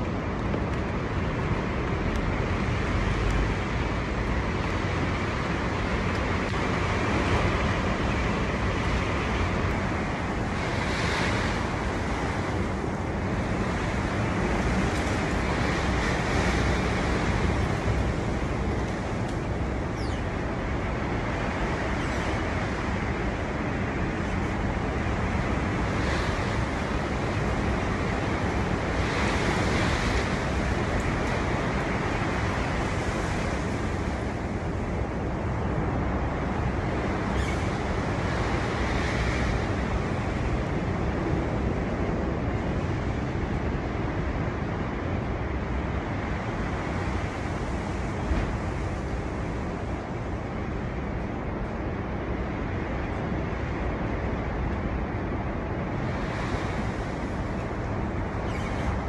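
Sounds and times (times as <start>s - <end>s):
strong wind blowing: 0.0s - 59.0s.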